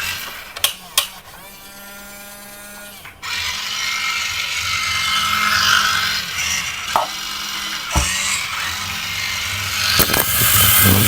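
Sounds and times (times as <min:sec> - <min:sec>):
toy motor whirring: 0:00.0 - 0:11.0.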